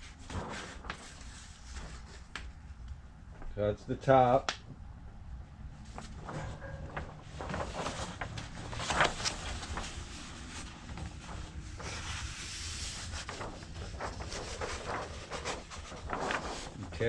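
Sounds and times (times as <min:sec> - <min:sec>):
paper poster rustling: 0:00.0 - 0:03.6, 0:05.7 - 0:17.0.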